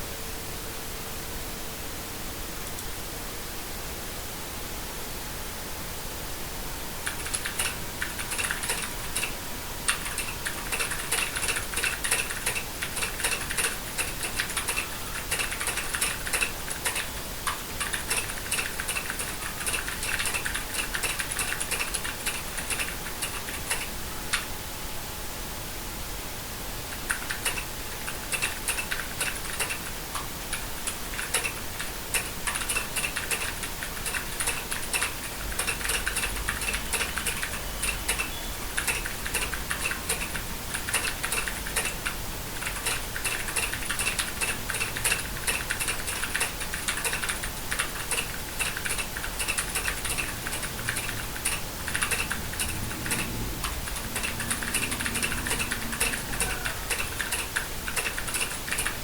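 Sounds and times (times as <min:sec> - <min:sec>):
typing on computer keyboard: 0:07.0 - 0:24.5, 0:26.9 - 0:59.0.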